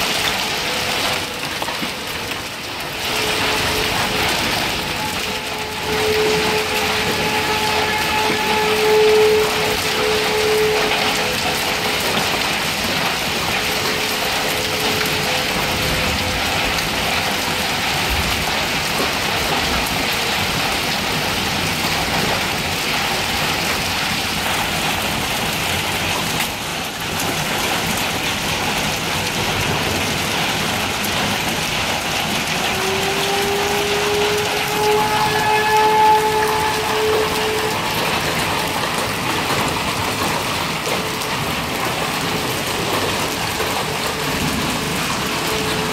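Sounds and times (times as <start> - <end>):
hail and heavy rain: 0.0 - 45.9.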